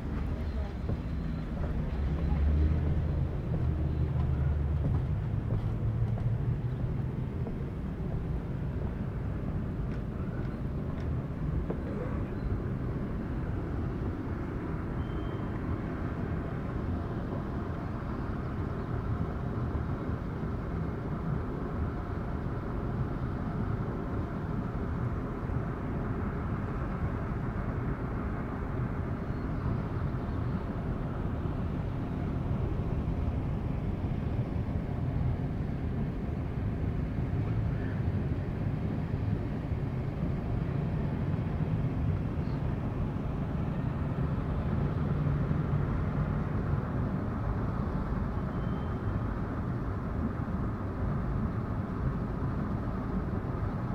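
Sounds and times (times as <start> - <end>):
vehicle engine rumble: 0.0 - 53.9.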